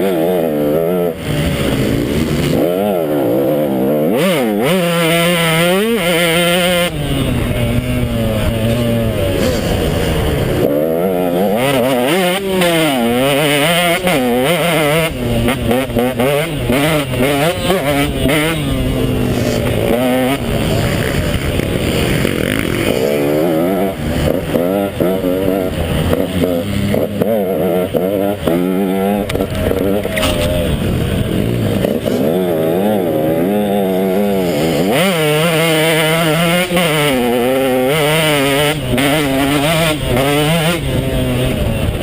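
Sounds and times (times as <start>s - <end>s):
two-stroke dirt bike engine revving: 0.0s - 42.0s.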